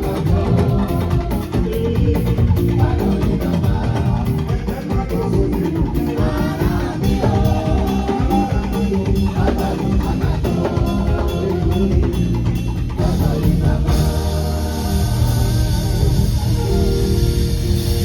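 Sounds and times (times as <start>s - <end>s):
band music: 0.0s - 18.0s
drum kit beat: 0.0s - 18.0s.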